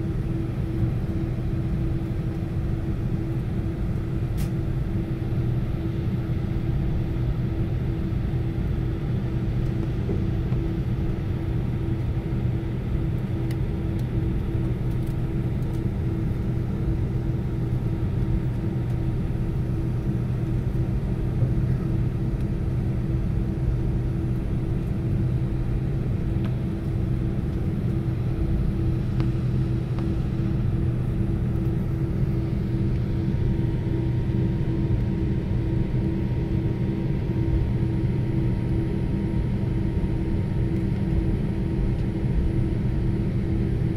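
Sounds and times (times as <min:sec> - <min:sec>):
aircraft cabin engine rumble: 0:00.0 - 0:43.9.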